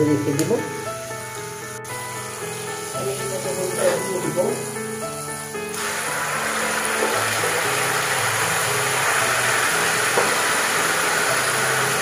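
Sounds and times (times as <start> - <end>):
frying in oil sizzling: 0.0 - 12.0.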